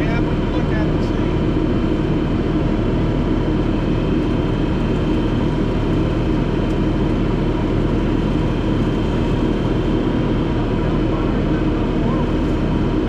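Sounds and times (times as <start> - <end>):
diesel engine running: 0.0 - 13.0
steady whine: 0.0 - 13.0.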